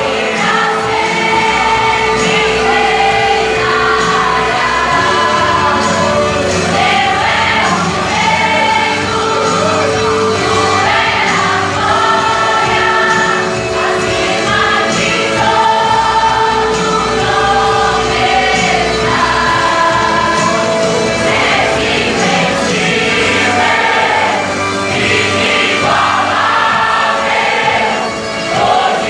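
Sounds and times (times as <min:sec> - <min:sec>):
choir singing worship song: 0:00.0 - 0:29.0
instrumental accompaniment: 0:00.0 - 0:29.0.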